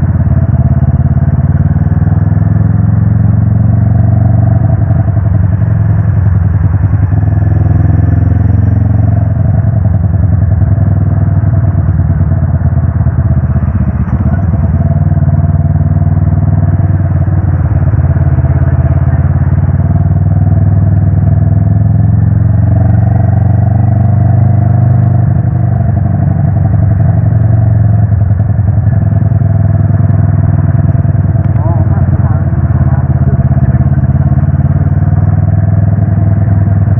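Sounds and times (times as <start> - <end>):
motorcycle engine rumbling: 0.0 - 36.9.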